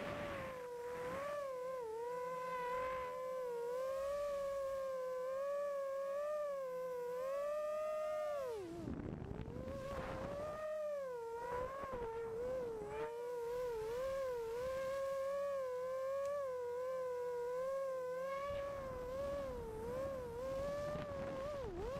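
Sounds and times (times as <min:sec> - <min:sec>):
quadcopter motors whining: 0:00.0 - 0:21.9.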